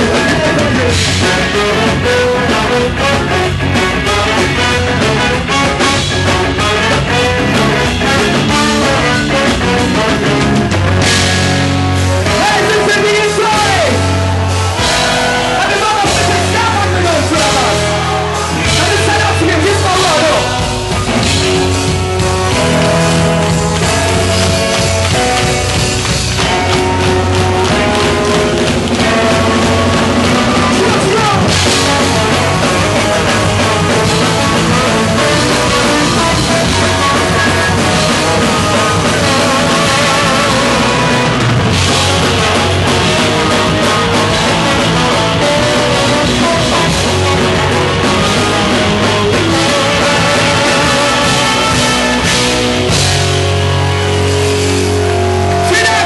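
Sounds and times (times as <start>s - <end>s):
loud live ska-punk band: 0.0s - 56.0s.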